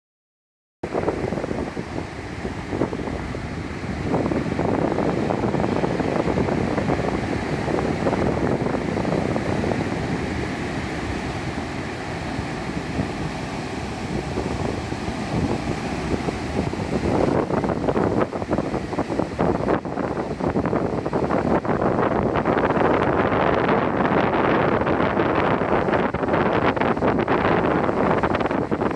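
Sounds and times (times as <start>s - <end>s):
wind buffeting microphone: 0.8s - 28.9s
surf crashing: 0.9s - 28.9s.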